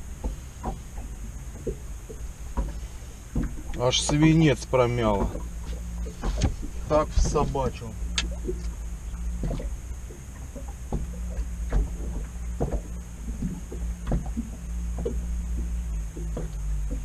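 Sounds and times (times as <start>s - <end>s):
steady low rumble: 0.0s - 17.0s
water splashing against hull: 0.0s - 17.0s.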